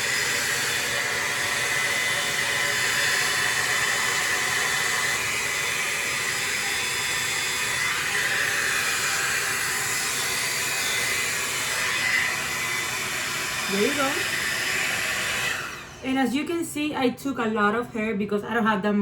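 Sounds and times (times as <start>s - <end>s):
hot-air dryer brush fan hissing: 0.0s - 16.8s.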